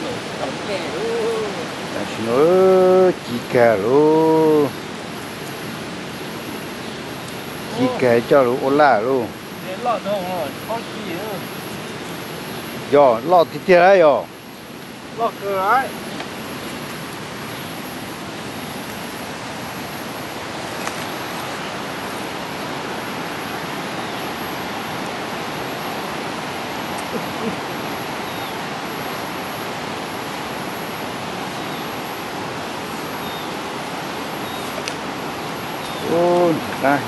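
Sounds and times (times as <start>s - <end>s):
stream water flowing: 0.0s - 37.0s.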